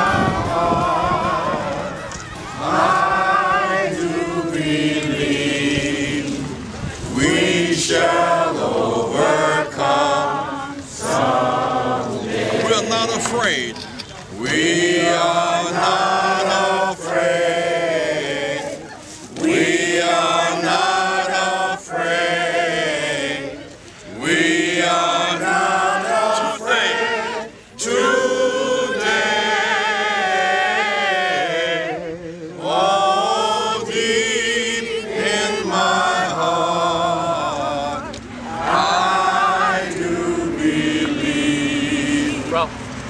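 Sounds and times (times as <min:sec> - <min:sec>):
group of people singing: 0:00.0 - 0:13.6, 0:14.3 - 0:43.0.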